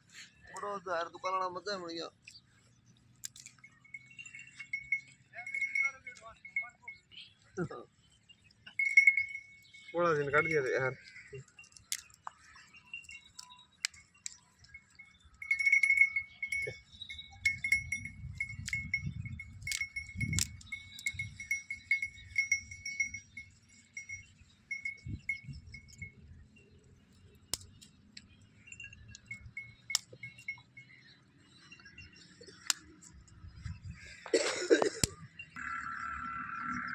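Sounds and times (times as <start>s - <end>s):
animal bell clinking: 1.6s - 34.2s.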